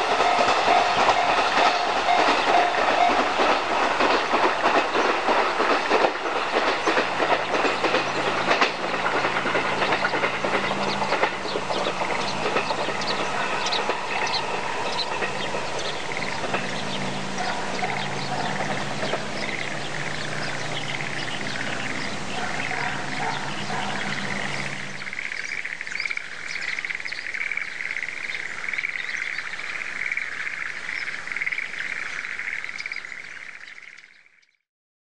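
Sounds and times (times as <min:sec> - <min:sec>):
frogs calling: 0:00.0 - 0:34.6.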